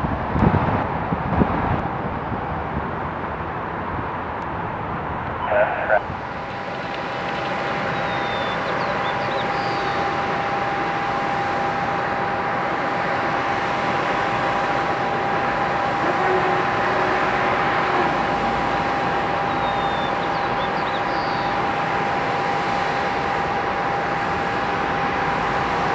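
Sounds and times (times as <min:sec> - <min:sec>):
distant jet engines running: 0:00.0 - 0:25.9.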